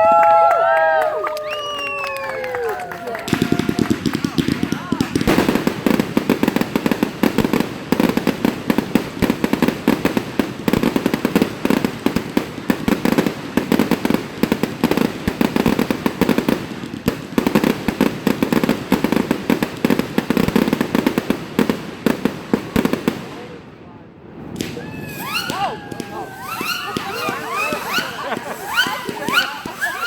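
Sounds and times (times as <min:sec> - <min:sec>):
fireworks bangs and crackles: 0:00.1 - 0:30.0.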